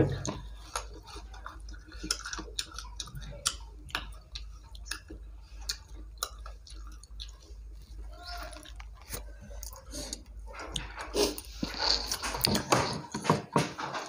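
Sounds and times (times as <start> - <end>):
steady low hum: 0.0 - 14.0
chewing and lip-smacking: 0.1 - 13.2.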